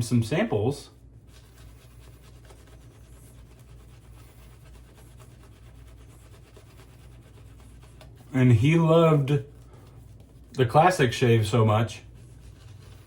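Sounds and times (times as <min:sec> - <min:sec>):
shaving brush rubbing lather: 0:00.0 - 0:13.0.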